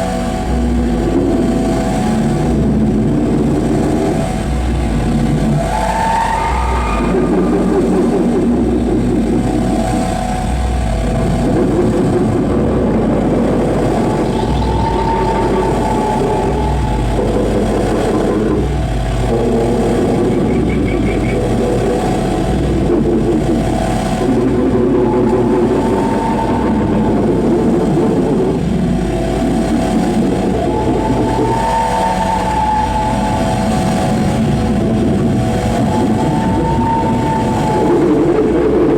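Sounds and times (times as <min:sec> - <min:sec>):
dense wall of distorted noise: 0:00.0 - 0:38.9
low throbbing pulse: 0:00.0 - 0:38.9.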